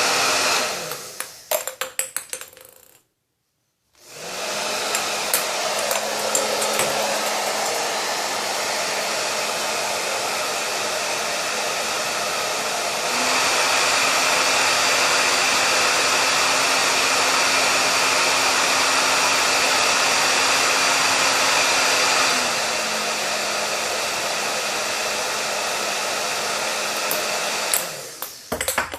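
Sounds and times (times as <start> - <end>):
hair dryer blowing: 0.0 - 2.0, 4.0 - 28.9.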